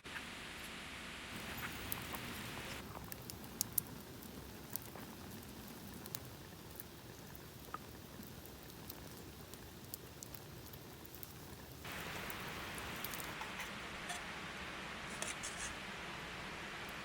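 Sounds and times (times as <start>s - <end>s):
faint steady hiss: 0.0s - 17.0s
campfire crackling: 1.3s - 17.0s.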